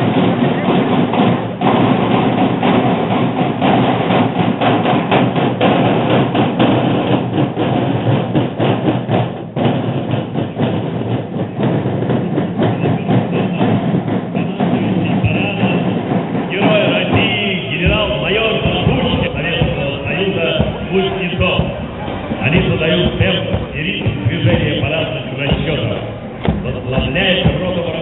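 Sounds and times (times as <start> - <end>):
snare drums marching cadence: 0.0 - 28.0.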